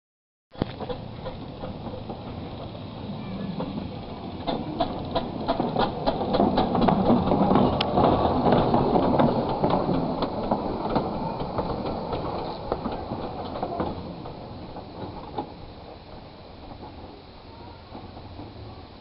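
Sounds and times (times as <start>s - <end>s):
train wheels clicking on rail joints: 0.5s - 19.0s
carriages rattling: 0.6s - 19.0s.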